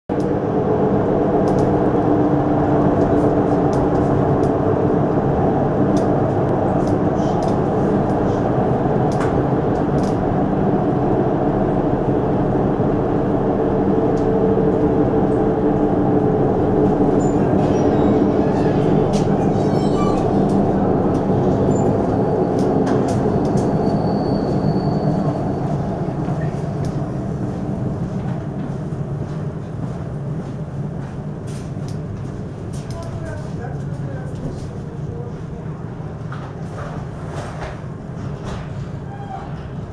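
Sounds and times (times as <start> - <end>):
train wheels rumbling on rails: 0.1 - 39.9.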